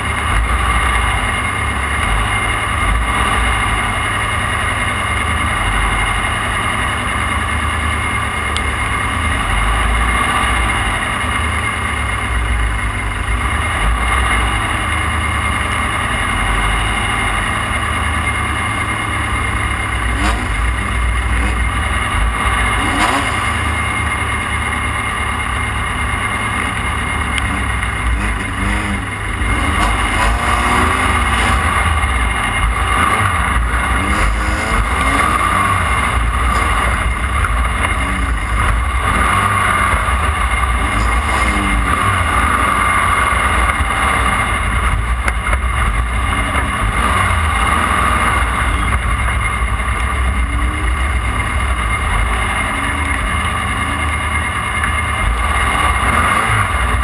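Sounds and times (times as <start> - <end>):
low rumble: 0.0 - 57.0
race car engine revving: 0.0 - 57.0.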